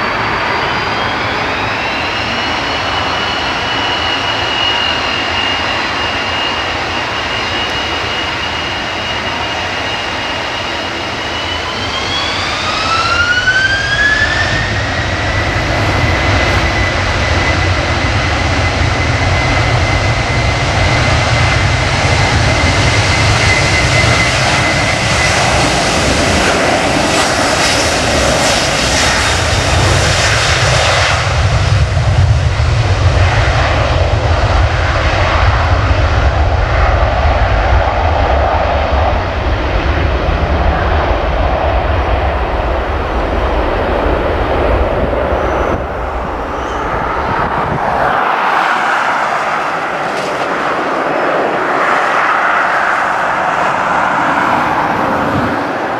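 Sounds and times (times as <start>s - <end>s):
deep jet rumble: 0.0s - 55.9s
jet engines whining: 0.0s - 55.9s.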